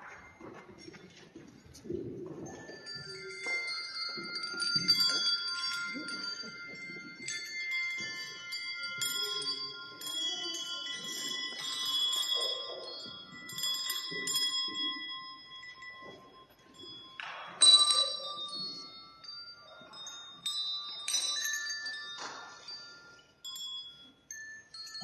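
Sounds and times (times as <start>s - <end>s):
small bells ringing: 0.0s - 25.0s.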